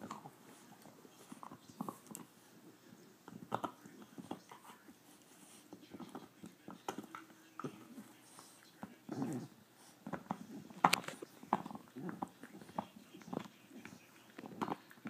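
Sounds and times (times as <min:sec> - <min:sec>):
dog gnawing chew toy: 0:00.0 - 0:15.0
dog throaty sound: 0:00.0 - 0:15.0.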